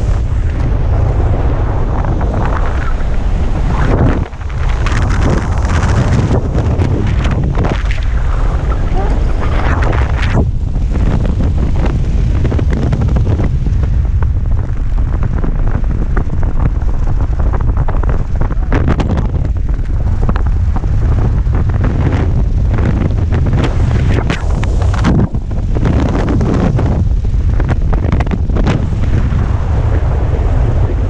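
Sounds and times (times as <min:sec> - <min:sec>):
heavy wind buffeting microphone: 0:00.0 - 0:31.0.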